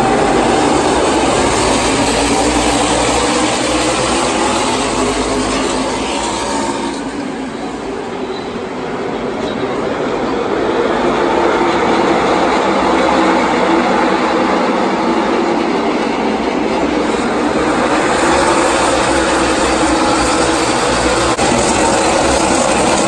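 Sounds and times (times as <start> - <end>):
race car engines droning: 0.0 - 23.0.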